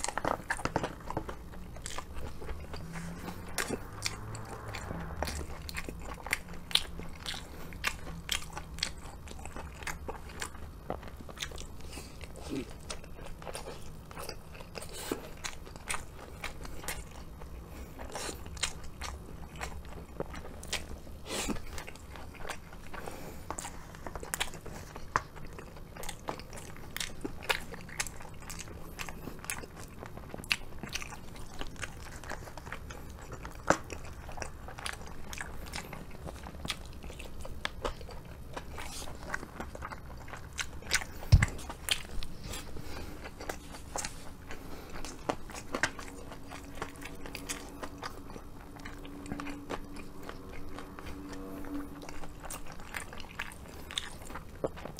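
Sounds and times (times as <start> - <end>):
crunching fried chicken: 0.0 - 54.9.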